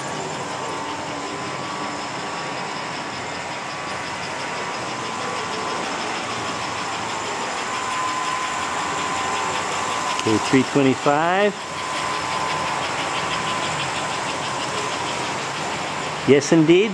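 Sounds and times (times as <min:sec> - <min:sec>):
faint whine: 0:00.0 - 0:16.9
model train motor hum: 0:00.0 - 0:16.9
model train wheel rumble: 0:00.0 - 0:16.9.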